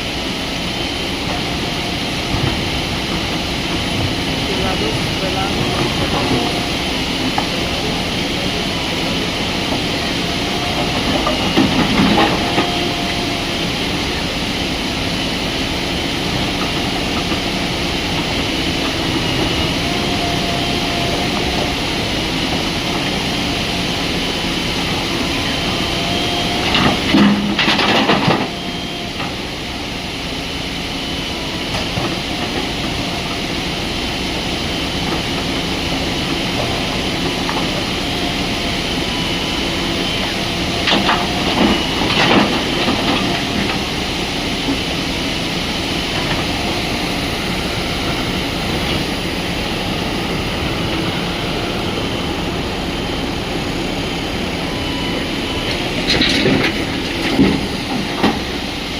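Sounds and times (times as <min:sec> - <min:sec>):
heavy diesel machinery running: 0:00.0 - 0:58.9.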